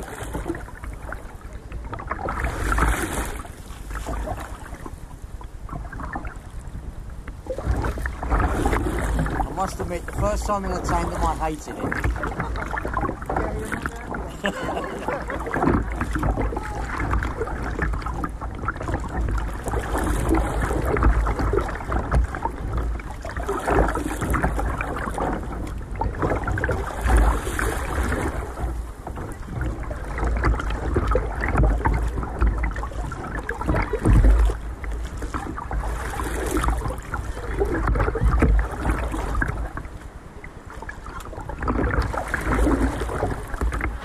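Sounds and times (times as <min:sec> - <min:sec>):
water lapping against kayak hull: 0:00.0 - 0:44.0.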